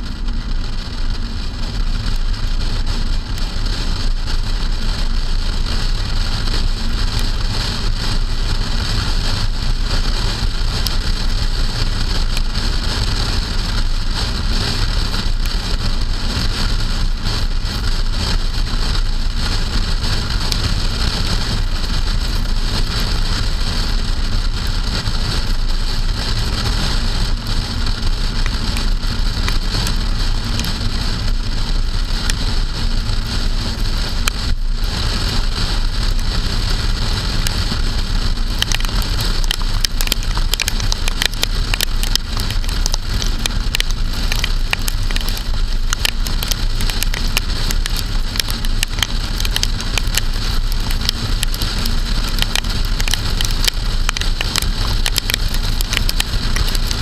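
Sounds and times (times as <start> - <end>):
raindrops ticking on camera: 0.0 - 57.0
wind and road noise: 0.0 - 57.0.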